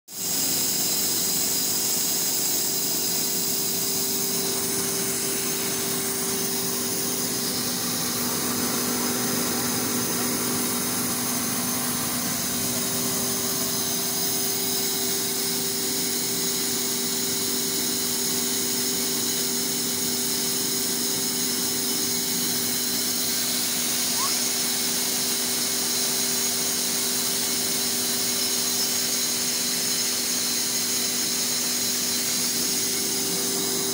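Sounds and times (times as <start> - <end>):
grain auger motor humming: 0.2 - 33.9.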